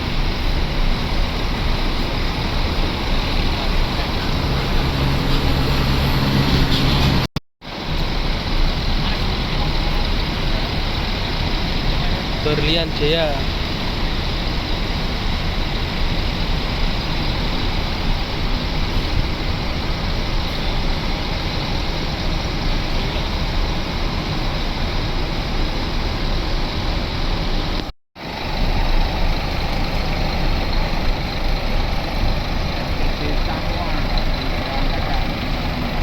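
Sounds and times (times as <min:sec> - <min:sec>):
bus diesel engine running: 0:00.0 - 0:36.0
road traffic noise: 0:00.0 - 0:36.0.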